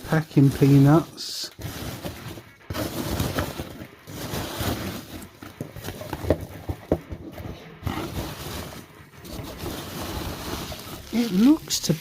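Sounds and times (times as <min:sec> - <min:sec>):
rustling packing peanuts: 0:00.0 - 0:12.0.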